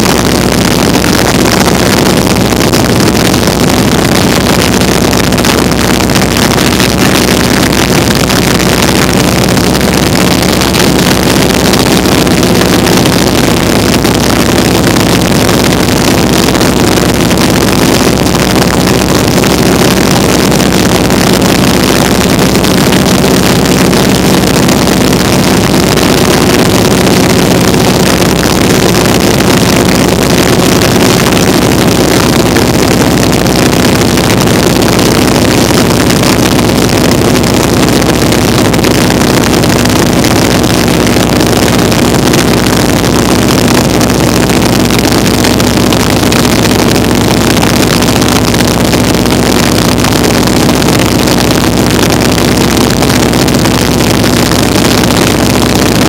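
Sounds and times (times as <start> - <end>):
biplane engine and propeller drone: 0.0 - 56.0.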